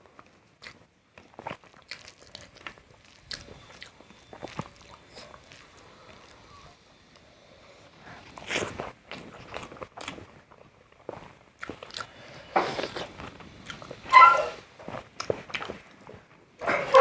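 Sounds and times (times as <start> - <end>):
chewing with crunches: 0.0 - 17.0.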